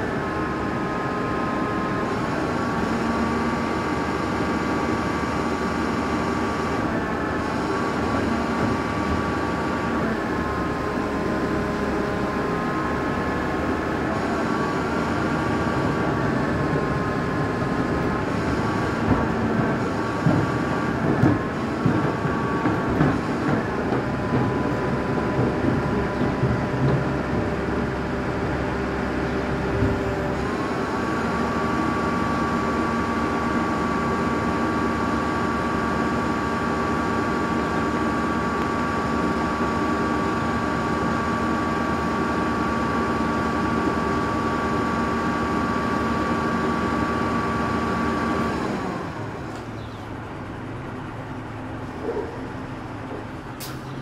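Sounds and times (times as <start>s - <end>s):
hydraulic pump whine: 0.0s - 54.0s
truck engine running fast: 0.0s - 54.0s.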